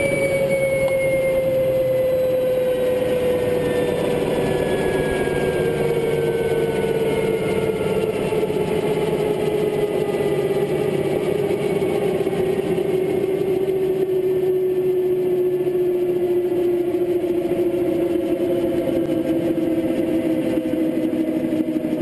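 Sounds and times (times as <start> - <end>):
turbine engine whine: 0.0 - 22.0.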